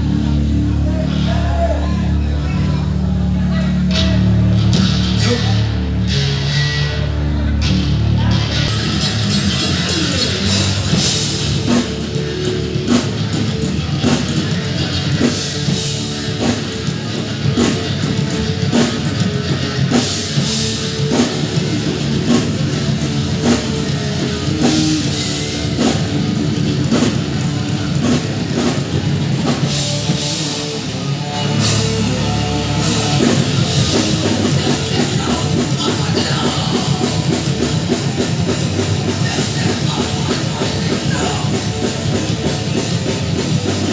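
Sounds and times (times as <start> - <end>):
drum kit beating: 0.0 - 43.9
rock band playing: 0.0 - 43.9.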